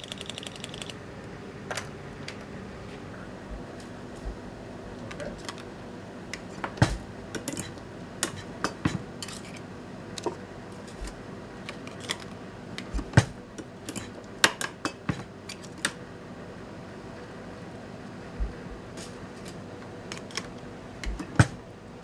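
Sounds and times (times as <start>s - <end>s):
workshop hum: 0.0s - 22.0s.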